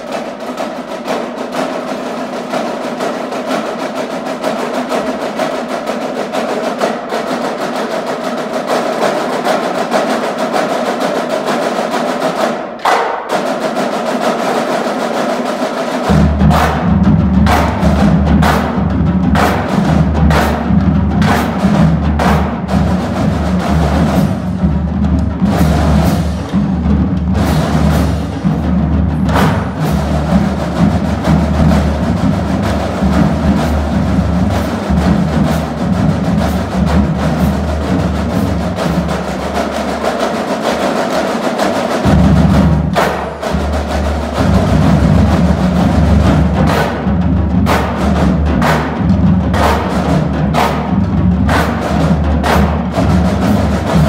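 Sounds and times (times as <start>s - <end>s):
marching bass drums: 0.0s - 54.0s
rapid snare drum strokes: 0.0s - 54.0s.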